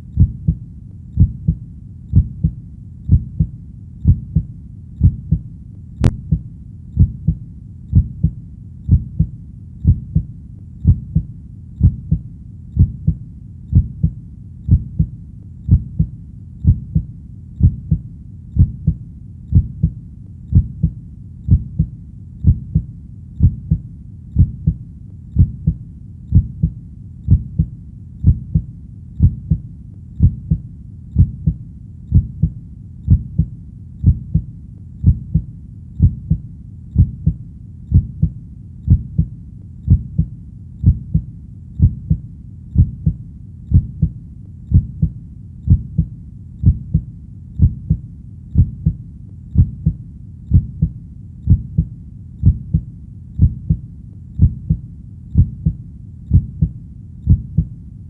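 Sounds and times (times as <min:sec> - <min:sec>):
heartbeat thuds: 0:00.0 - 0:00.6, 0:01.2 - 0:23.8, 0:24.4 - 0:24.8, 0:25.4 - 0:30.6, 0:31.2 - 0:42.2, 0:42.8 - 0:53.8, 0:54.4 - 0:57.8.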